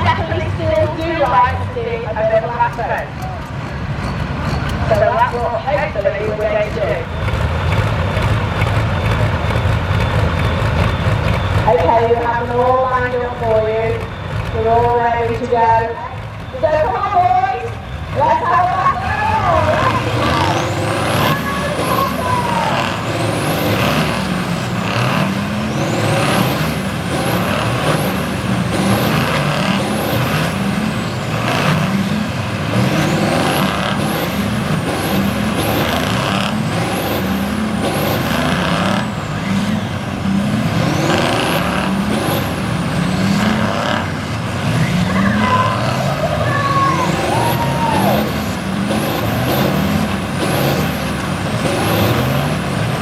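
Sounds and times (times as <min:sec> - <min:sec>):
tractor diesel engines revving: 0:00.0 - 0:53.0.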